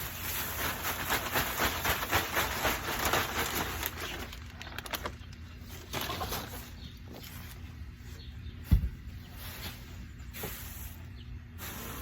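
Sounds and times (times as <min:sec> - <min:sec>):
rustling and scraping of bedding: 0:00.0 - 0:12.0.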